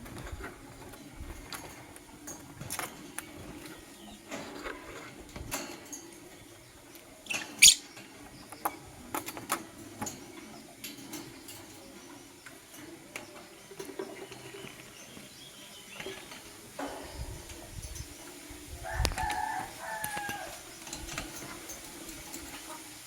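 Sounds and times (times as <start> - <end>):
lovebirds chirping and clicking: 0.0 - 22.8.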